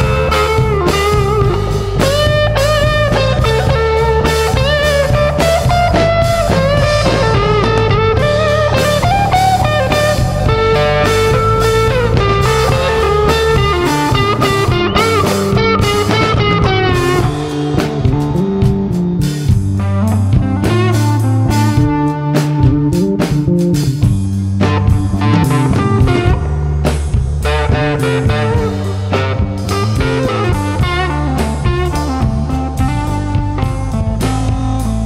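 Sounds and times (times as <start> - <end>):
bass guitar: 0.0 - 35.0
drum kit: 0.0 - 35.0
lead guitar bending notes: 0.0 - 35.0.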